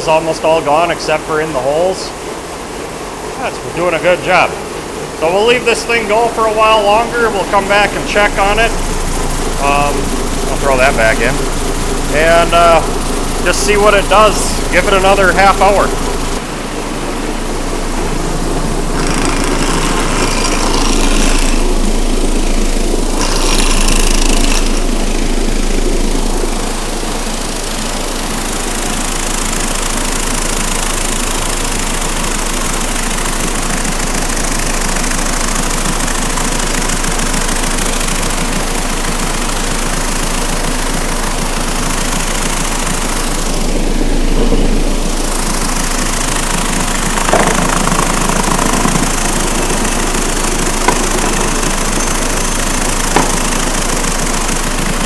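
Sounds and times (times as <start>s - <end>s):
low motor hum: 0.0s - 55.0s.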